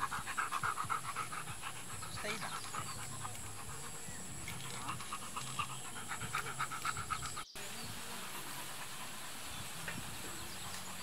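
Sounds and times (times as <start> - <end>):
dog panting fast: 0.0 - 11.0.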